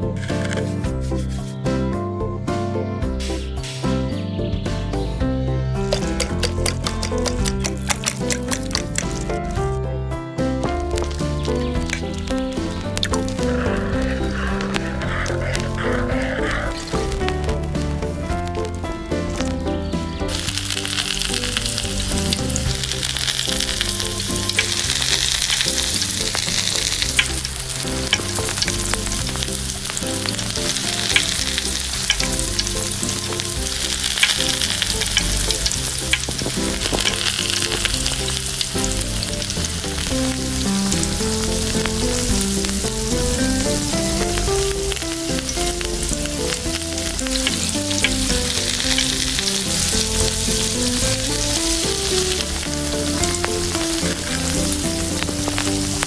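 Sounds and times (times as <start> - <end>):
food sizzling in oil: 5.9 - 9.6, 10.8 - 56.0
small pops and crackles: 5.9 - 9.7, 10.6 - 19.6, 20.3 - 56.0.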